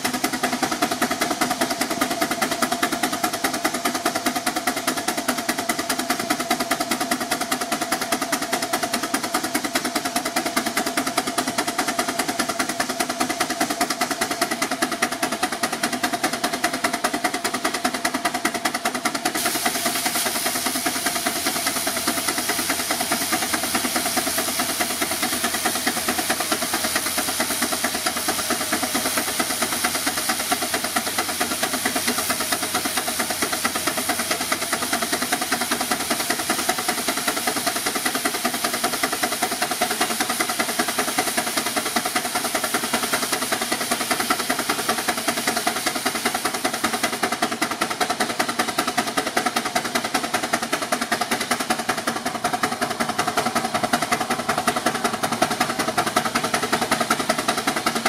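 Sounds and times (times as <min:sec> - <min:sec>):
steam engine exhaust chuffing: 0:00.0 - 0:58.0.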